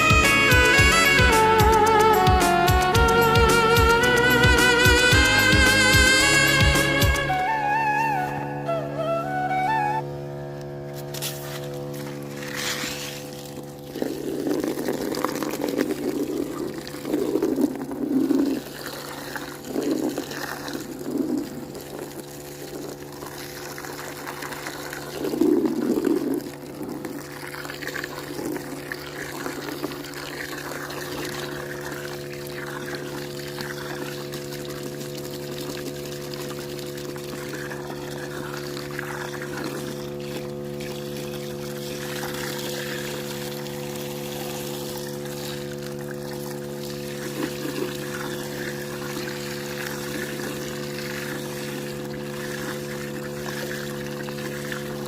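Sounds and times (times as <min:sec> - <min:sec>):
machine hum: 0:00.0 - 0:55.0
water pouring and splashing: 0:10.9 - 0:55.0.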